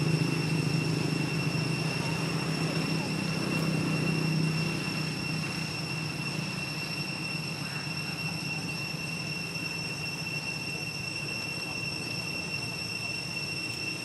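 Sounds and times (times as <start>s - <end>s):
low background drone: 0.0s - 14.0s.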